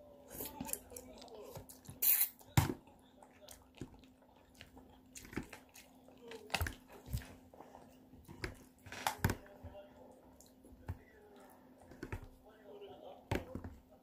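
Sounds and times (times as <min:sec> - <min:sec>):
chewing: 0:00.3 - 0:12.4.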